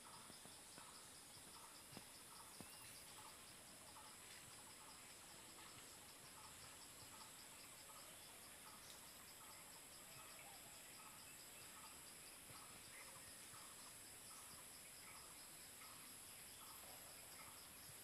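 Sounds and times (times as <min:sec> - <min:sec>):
insect chorus hissing: 0:00.0 - 0:18.0.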